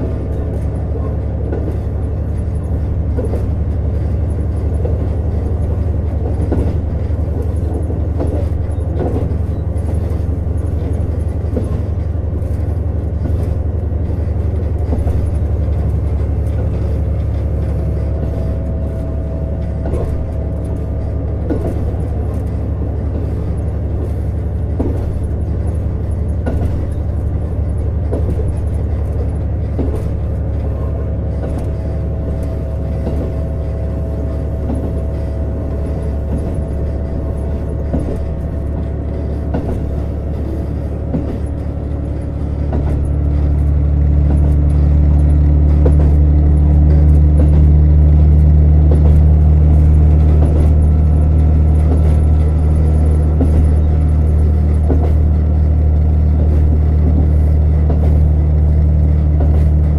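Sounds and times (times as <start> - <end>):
diesel engine drone: 0.0 - 59.9
wheel and track rumble: 0.0 - 59.9.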